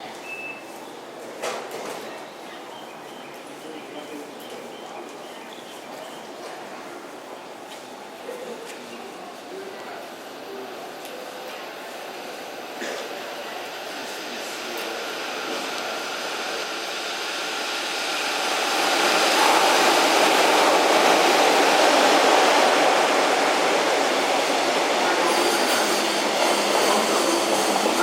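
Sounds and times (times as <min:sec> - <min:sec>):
freight train rolling past: 0:01.1 - 0:28.0.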